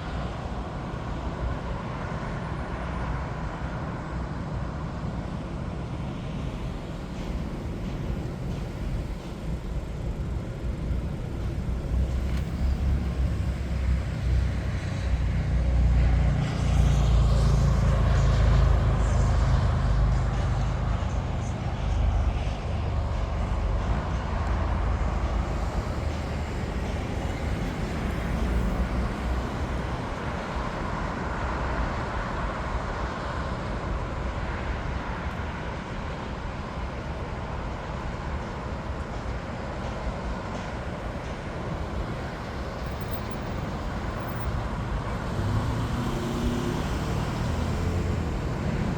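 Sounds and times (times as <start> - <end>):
jet airliner engines rumbling: 0.0 - 48.9.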